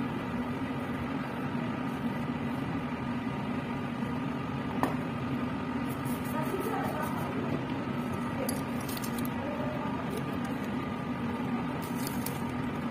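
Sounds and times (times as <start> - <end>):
blower hum and airflow: 0.0 - 12.9.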